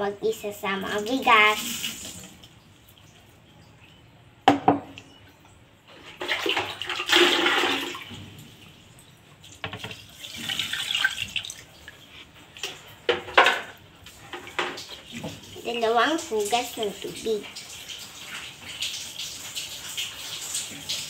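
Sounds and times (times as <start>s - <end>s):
water sloshing in a metal pot: 0.6s - 4.0s, 5.0s - 21.0s.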